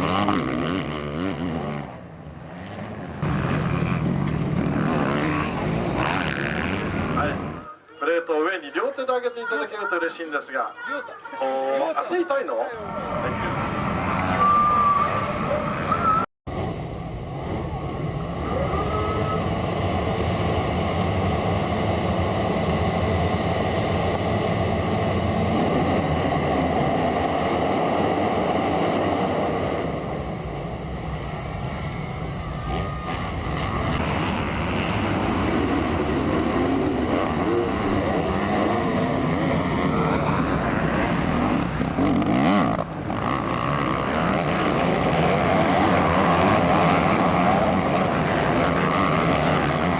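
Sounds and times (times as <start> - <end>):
dirt bike engines revving: 0.0 - 49.9.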